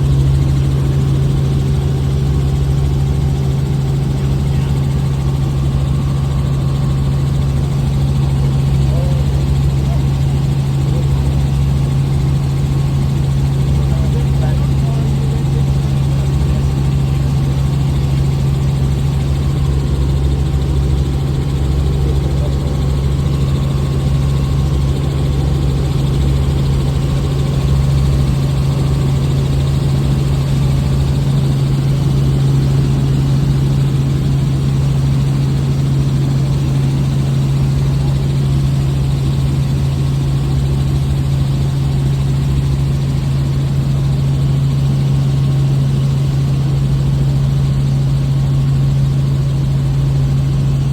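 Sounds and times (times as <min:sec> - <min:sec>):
helicopter engine and rotor drone: 0:00.0 - 0:50.9.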